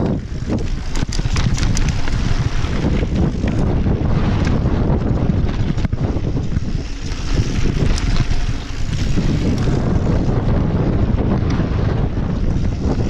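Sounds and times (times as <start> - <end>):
bike rattling: 0.0 - 13.0
tyres rolling over loose ground: 0.0 - 13.0
wind buffeting microphone: 0.0 - 13.0.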